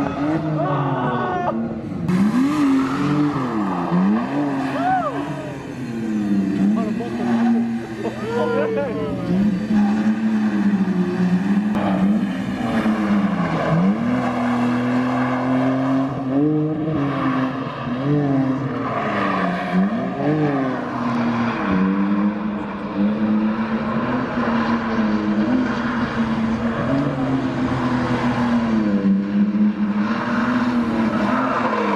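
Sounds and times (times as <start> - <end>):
car engine at high revs: 0.0 - 31.9.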